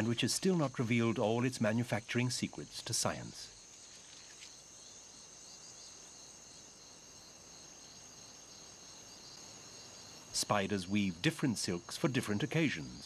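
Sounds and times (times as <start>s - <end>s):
insect chorus trilling: 0.0s - 13.0s.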